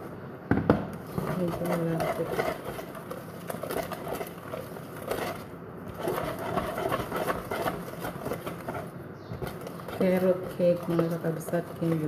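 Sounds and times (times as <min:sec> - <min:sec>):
wire whisk beating batter: 0:01.0 - 0:12.0
whisk clicking against bowl: 0:01.2 - 0:12.0.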